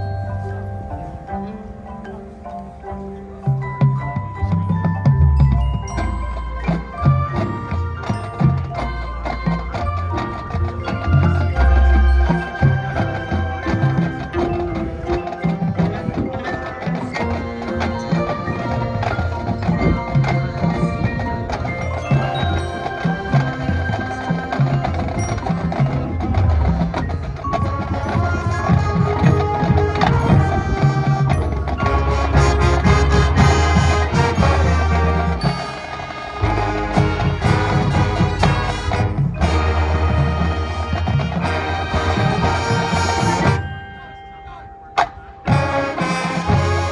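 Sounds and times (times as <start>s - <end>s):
marching band playing: 0.0s - 46.9s.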